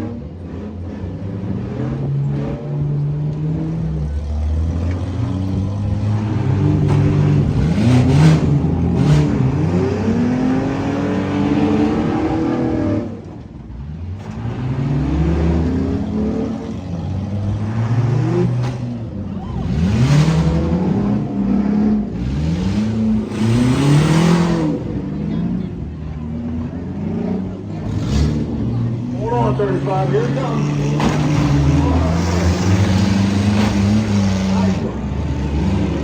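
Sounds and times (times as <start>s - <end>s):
car engines revving hard: 0.0s - 36.0s.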